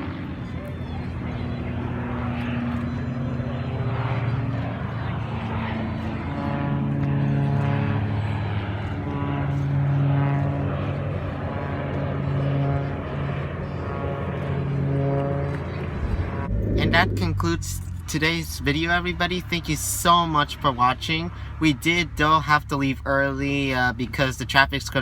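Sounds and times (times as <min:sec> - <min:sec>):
propeller aircraft engines droning: 0:00.0 - 0:25.0.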